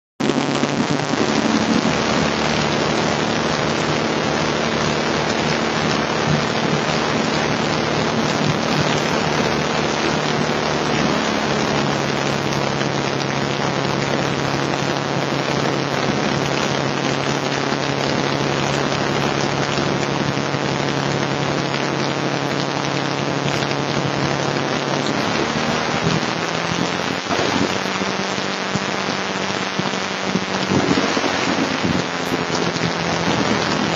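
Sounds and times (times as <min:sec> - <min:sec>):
aircraft engine and propeller drone: 0:00.3 - 0:33.9.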